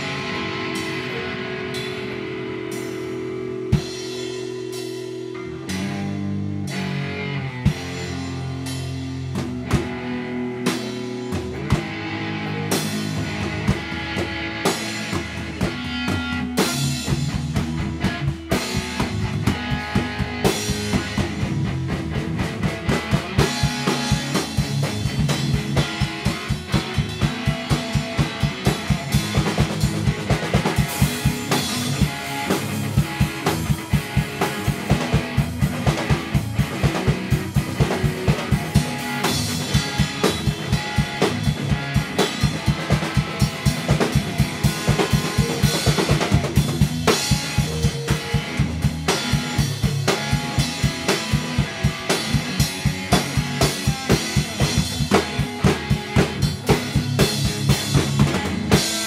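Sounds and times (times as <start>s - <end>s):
drum kit beat: 0.0s - 59.0s
electric guitars: 0.0s - 59.0s.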